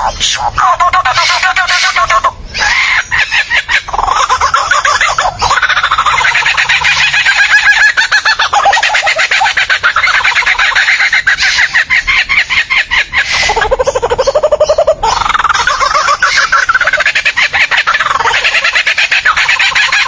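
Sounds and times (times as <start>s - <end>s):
bird calling: 0.0s - 20.0s.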